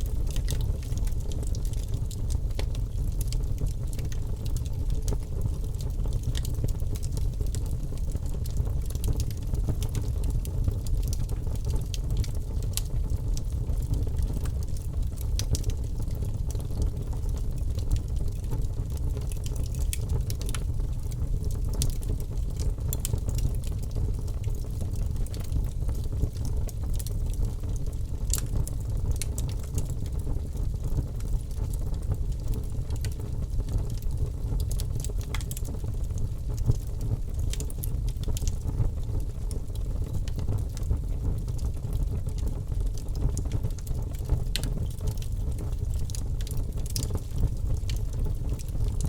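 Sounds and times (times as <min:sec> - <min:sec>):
logs crackling and popping: 0:00.0 - 0:49.0
low rumble of flames: 0:00.0 - 0:49.0.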